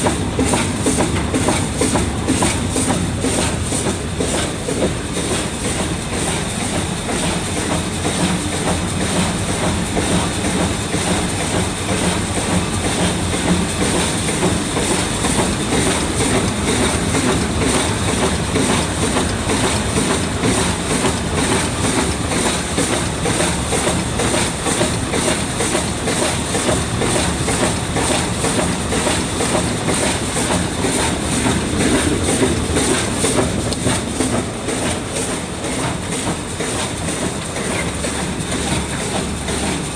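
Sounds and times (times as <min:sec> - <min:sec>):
packing machine clattering: 0:07.7 - 0:39.9.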